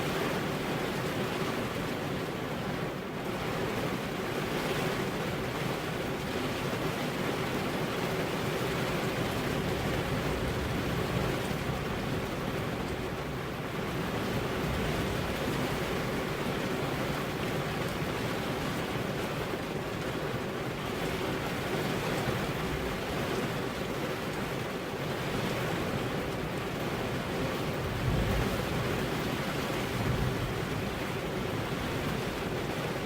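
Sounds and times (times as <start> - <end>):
rain drumming on car windows: 0.0 - 33.0.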